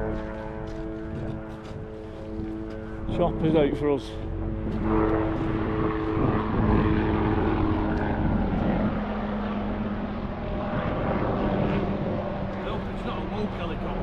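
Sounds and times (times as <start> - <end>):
propeller aeroplane passing over: 0.0 - 14.0.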